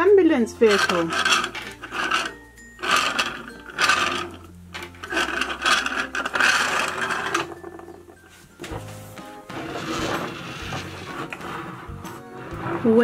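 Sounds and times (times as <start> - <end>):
toy car wheels rolling on table: 0.5 - 8.4, 9.5 - 13.0.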